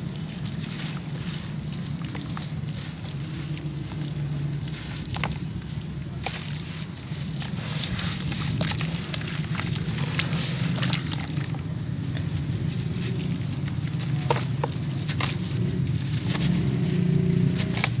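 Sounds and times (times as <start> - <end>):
crumbs dropping into water: 0.0 - 18.0
hands crumbling damp sand: 0.0 - 18.0
water splashing: 0.0 - 18.0.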